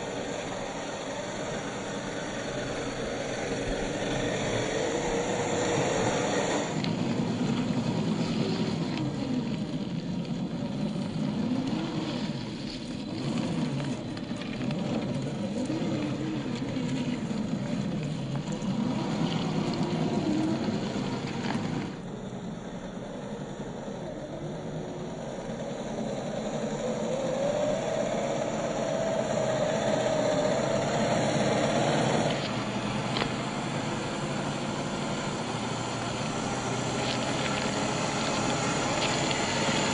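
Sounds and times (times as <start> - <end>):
toy car motor whining: 0.0 - 22.1, 23.7 - 39.9.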